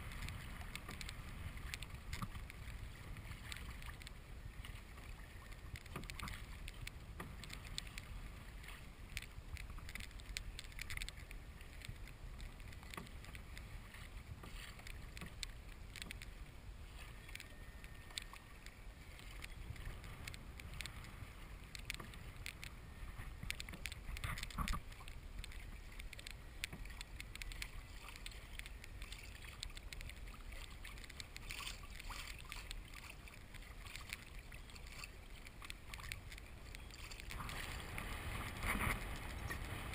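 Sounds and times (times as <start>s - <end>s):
wind rumble on microphone: 0.0s - 30.8s, 35.7s - 39.9s
water splashing against kayak hull: 0.0s - 39.9s.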